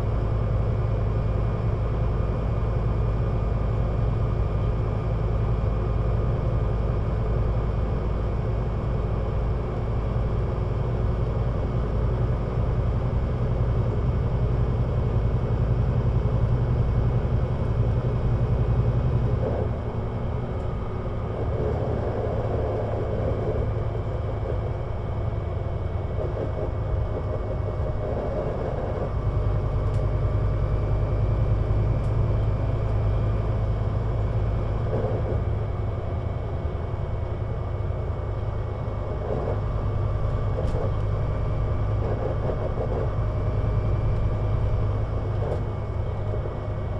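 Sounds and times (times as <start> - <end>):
bus engine rumble: 0.0 - 46.9.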